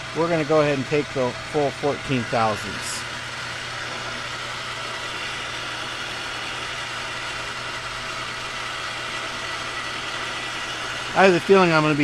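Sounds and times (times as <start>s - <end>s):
metal lathe cutting steel: 0.0s - 12.0s.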